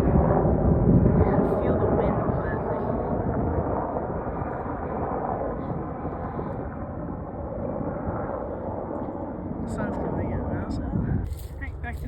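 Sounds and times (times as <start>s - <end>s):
low-flying aircraft rushing overhead: 0.0s - 12.0s
wind buffeting microphone: 0.0s - 12.0s.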